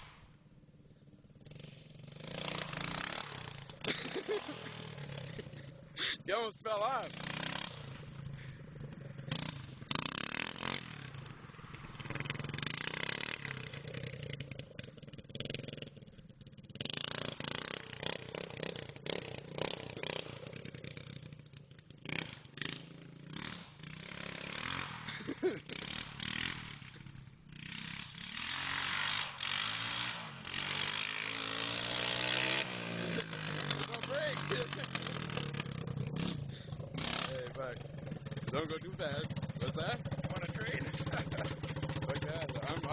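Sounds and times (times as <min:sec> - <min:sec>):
off-road motorcycle engine revving: 0:00.0 - 0:42.9.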